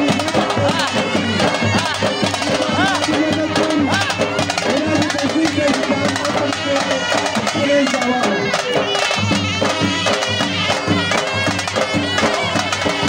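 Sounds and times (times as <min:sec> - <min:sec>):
quick steady drumming: 0:00.0 - 0:13.0
shrill reed pipe melody: 0:00.0 - 0:13.0.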